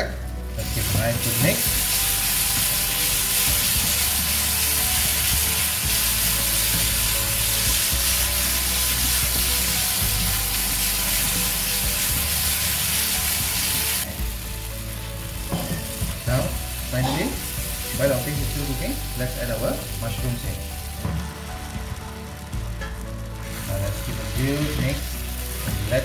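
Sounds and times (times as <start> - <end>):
paste sizzling in a pan: 0.3 - 26.0.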